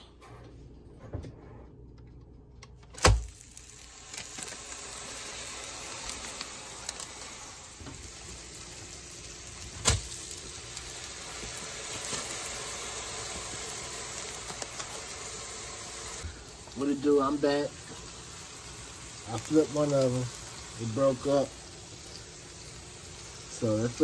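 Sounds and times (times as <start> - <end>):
meat patties sizzling on a griddle: 3.1 - 24.0.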